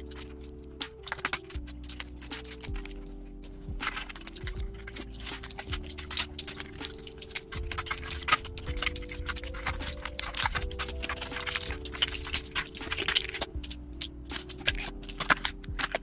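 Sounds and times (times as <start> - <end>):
soft background music: 0.0 - 16.0
plastic lids clicking: 0.1 - 2.9, 3.8 - 16.0.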